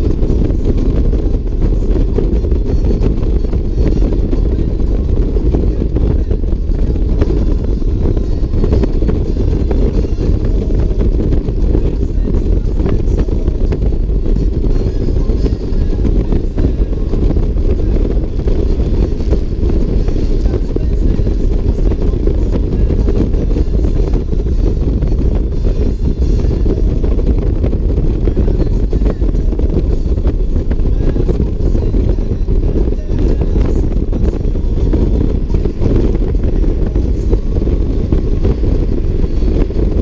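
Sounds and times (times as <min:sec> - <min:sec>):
motorcycle engine cruising: 0:00.0 - 0:40.0
wind rushing over microphone: 0:00.0 - 0:40.0.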